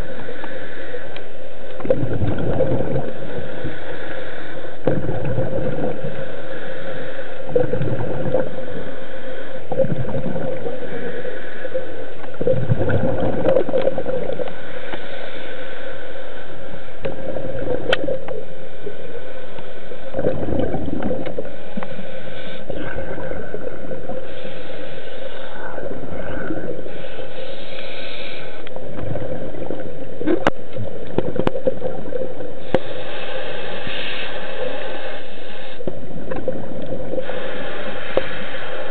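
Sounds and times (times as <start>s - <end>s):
steady hum: 0.0s - 38.9s
underwater water sloshing: 0.0s - 38.9s.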